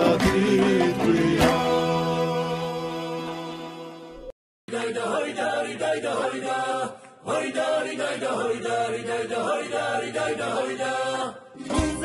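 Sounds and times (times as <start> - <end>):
voices singing chant-like melody: 0.0 - 4.0, 4.7 - 12.0.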